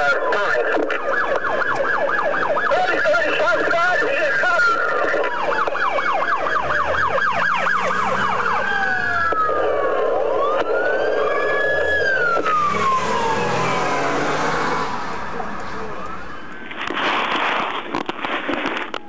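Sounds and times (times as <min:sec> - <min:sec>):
police car sirens: 0:00.0 - 0:19.0.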